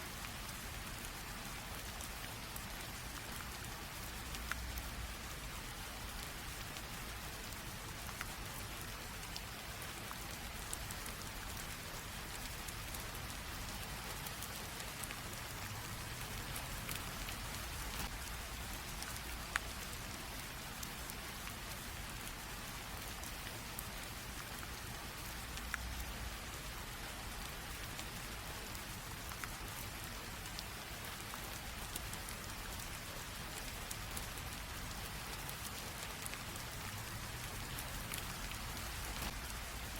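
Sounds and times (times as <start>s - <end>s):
light rain hissing: 0.0s - 39.9s
raindrops ticking: 0.1s - 39.9s.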